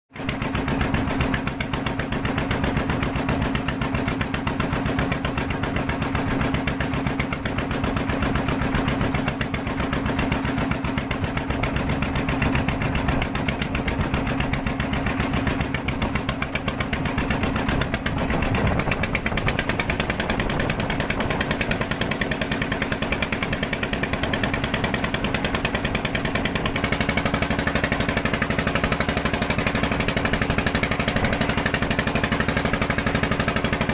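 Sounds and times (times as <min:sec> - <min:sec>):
small engine chugging: 0:00.2 - 0:33.9.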